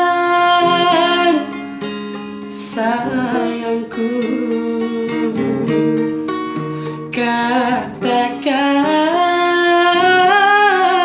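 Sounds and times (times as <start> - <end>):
person singing a slow ballad: 0.0 - 1.7, 2.3 - 11.0
acoustic guitar: 0.0 - 11.0.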